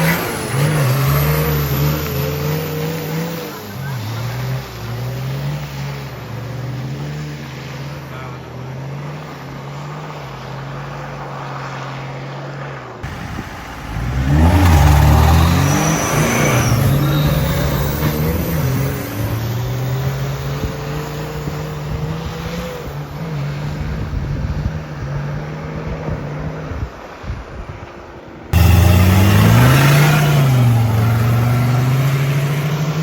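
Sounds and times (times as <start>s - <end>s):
truck engine revving: 0.0s - 11.5s, 13.0s - 25.7s, 28.6s - 33.0s.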